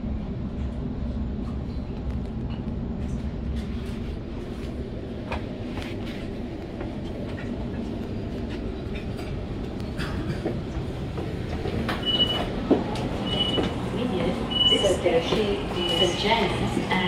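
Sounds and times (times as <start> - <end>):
train running gear rumble: 0.0 - 17.0.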